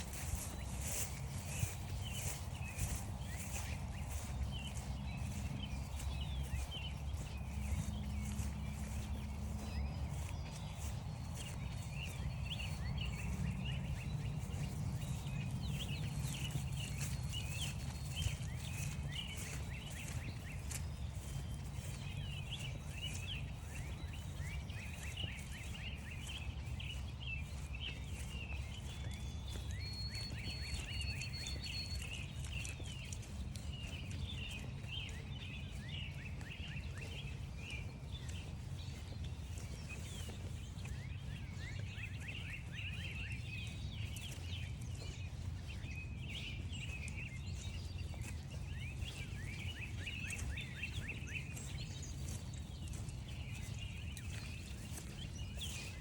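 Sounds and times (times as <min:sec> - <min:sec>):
footsteps crunching on frosty grass: 0:00.0 - 0:56.0
songbirds chirping and singing: 0:00.0 - 0:56.0.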